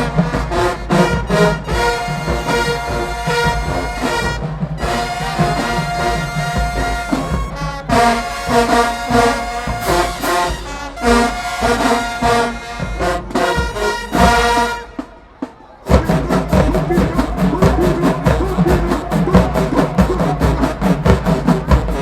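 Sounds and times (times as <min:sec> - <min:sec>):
marching band brass playing: 0:00.0 - 0:22.0
steady drum beat: 0:00.0 - 0:22.0.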